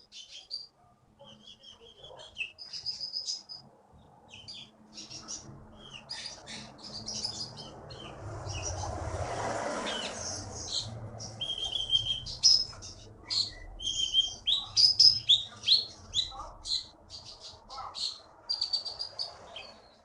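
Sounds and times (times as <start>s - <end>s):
songbird singing chirps and whistles: 0.0s - 9.2s, 9.8s - 20.0s.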